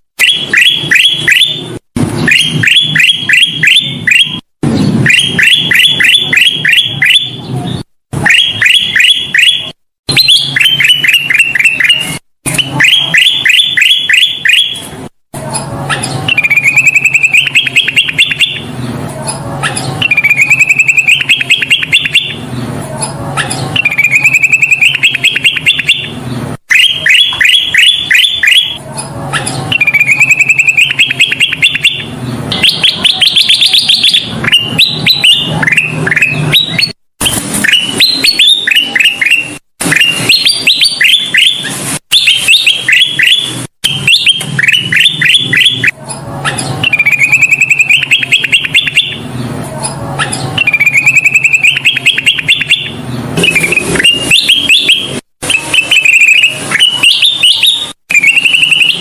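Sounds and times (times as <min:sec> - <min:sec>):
bird singing rapid chirps: 0:00.2 - 0:59.0.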